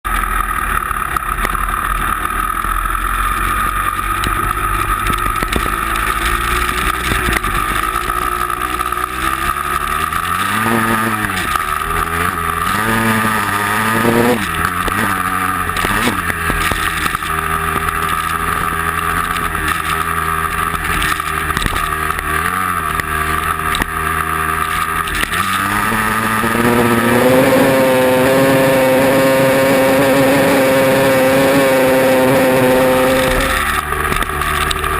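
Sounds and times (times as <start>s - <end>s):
steady high whine: 0.1s - 34.9s
vehicle engine revving: 0.1s - 34.9s.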